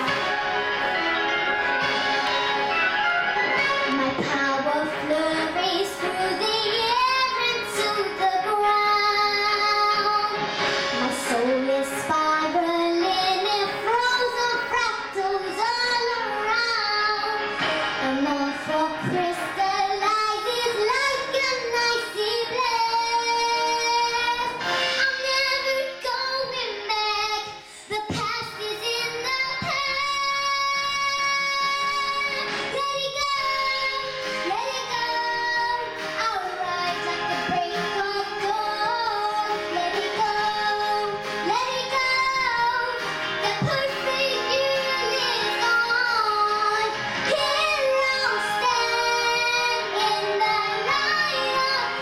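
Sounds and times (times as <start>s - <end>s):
instrumental backing track: 0.0s - 52.0s
girl singing into a microphone: 3.8s - 52.0s.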